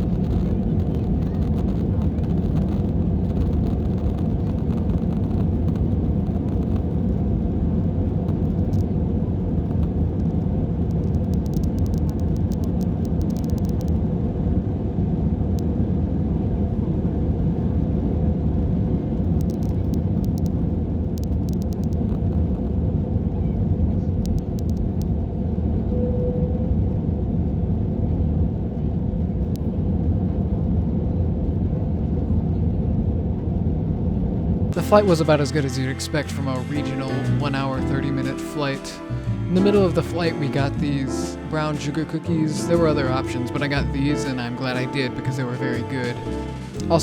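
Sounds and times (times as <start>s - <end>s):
airliner cabin engine rumble: 0.0s - 47.0s.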